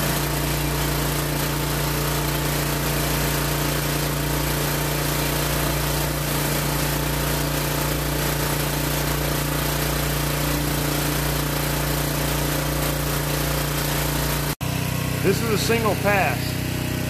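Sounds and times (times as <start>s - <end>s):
high-pressure water spraying: 0.0s - 17.0s
pressure washer engine running: 0.0s - 17.0s.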